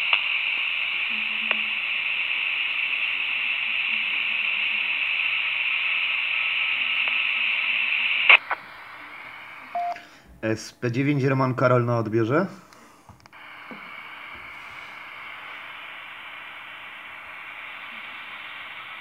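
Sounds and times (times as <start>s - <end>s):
radio receiver hiss: 0.0s - 10.6s, 12.6s - 19.0s.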